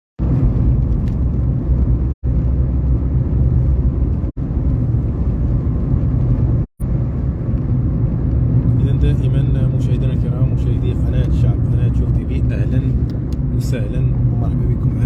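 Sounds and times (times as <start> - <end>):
car rumbling on road: 0.2 - 15.0.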